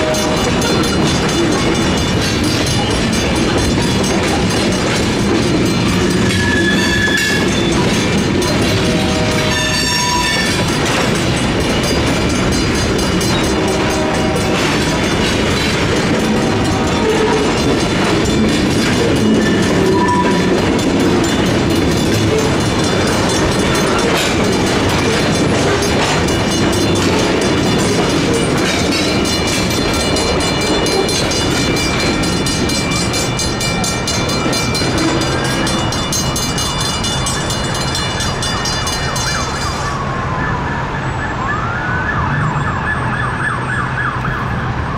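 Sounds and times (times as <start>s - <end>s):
train wheels clattering over rails: 0.0s - 40.0s
crossing bells ringing: 0.0s - 41.6s.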